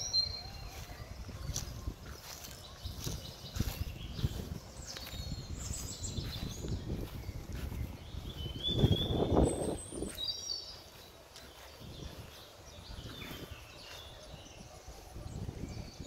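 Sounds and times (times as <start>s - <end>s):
small birds chirping: 0.0s - 16.0s
wind buffeting microphone: 0.0s - 16.0s.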